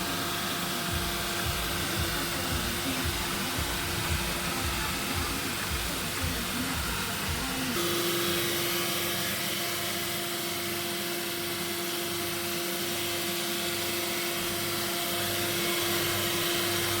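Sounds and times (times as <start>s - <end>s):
drum sander running: 0.0s - 17.0s.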